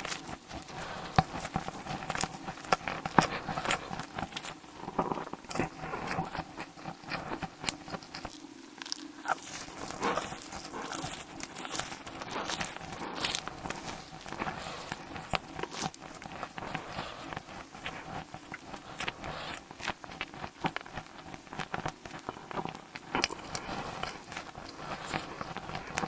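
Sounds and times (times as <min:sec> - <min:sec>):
person biting and chewing: 0:00.0 - 0:26.0.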